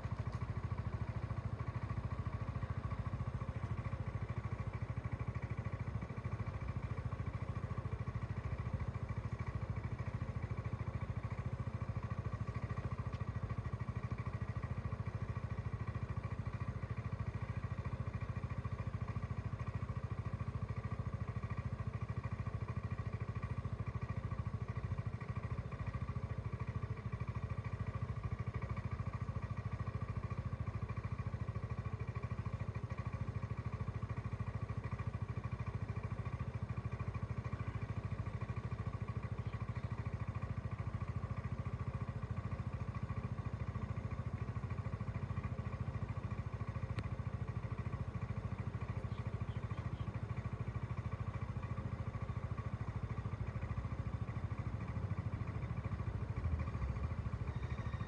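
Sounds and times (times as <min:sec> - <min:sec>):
scooter engine idling: 0:00.0 - 0:58.0.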